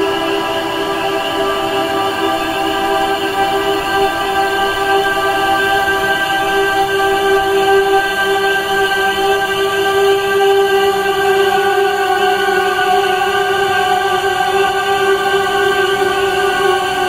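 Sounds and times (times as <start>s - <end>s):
ambient drone music: 0.0s - 17.0s.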